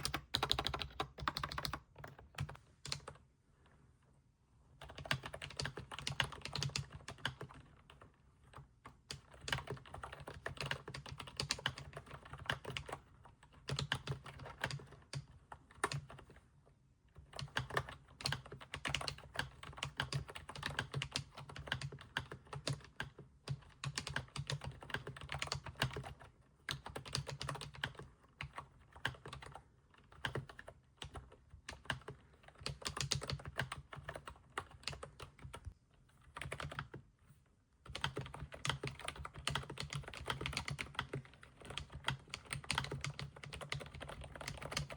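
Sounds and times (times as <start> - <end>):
mechanical keyboard typing: 0.0 - 3.2, 4.8 - 16.4, 17.2 - 35.7, 36.3 - 37.0, 37.9 - 44.9.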